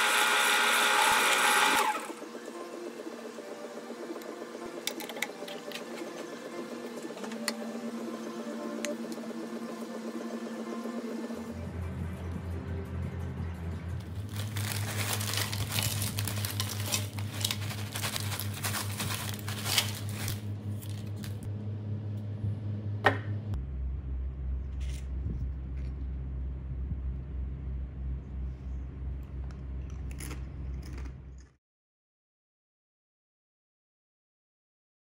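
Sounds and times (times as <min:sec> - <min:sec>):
low music drone: 0:01.8 - 0:31.4.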